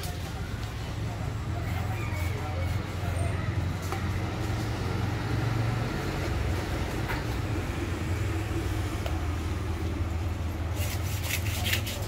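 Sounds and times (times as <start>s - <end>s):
engine rumble: 0.0s - 11.2s.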